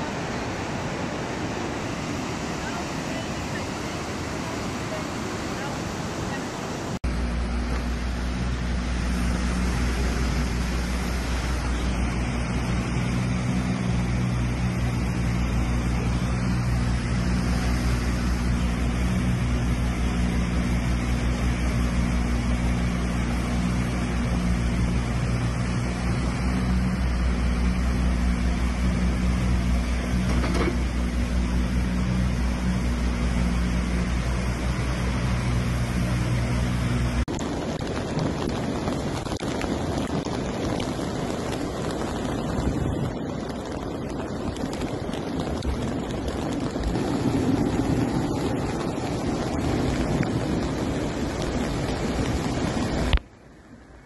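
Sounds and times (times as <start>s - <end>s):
roar of rushing river water: 0.0s - 54.0s
deep low hum: 7.0s - 54.0s.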